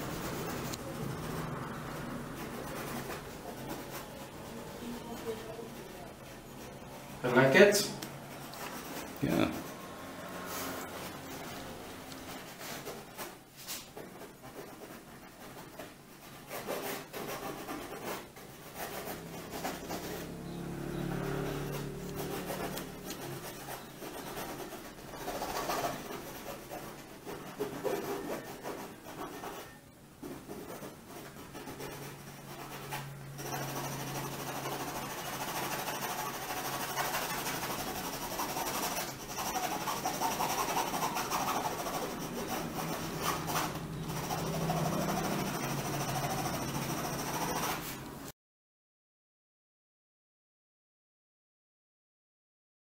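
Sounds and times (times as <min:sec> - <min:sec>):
drawing stick scratching on board: 0:00.0 - 0:48.1.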